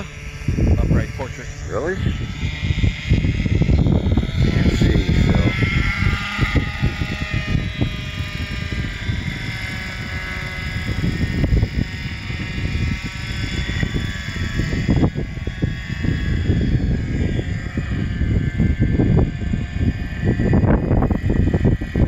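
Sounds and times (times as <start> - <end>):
rc helicopter engine and rotor: 0.0 - 22.0.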